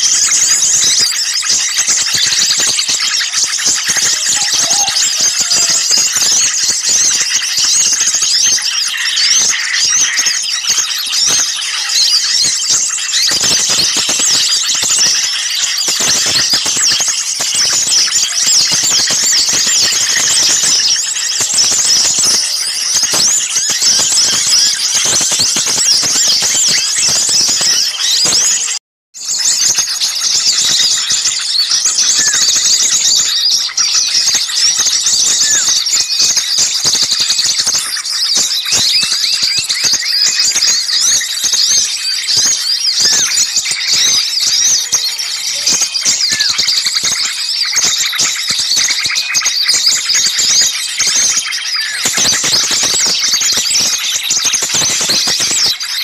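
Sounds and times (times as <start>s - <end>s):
small birds chattering: 0.0s - 56.0s.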